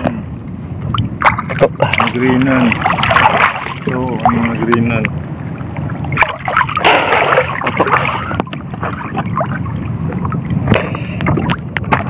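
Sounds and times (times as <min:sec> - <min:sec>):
steady low rumble: 0:00.0 - 0:12.0
water splashing and dripping: 0:00.9 - 0:05.1, 0:05.7 - 0:12.0.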